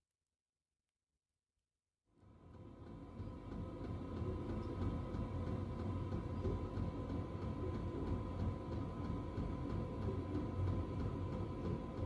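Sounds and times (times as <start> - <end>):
low machine hum: 2.1 - 12.0
thin steady whine: 2.1 - 12.0.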